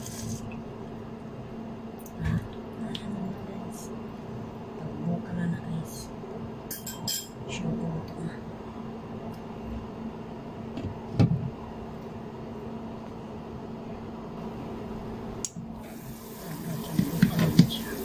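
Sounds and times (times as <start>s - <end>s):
induction cooktop hum: 0.0s - 18.0s.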